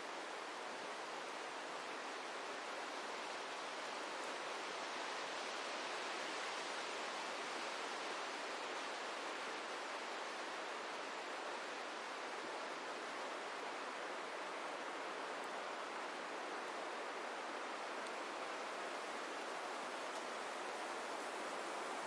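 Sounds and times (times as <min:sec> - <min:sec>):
wind rustling tree leaves: 0:00.0 - 0:22.0.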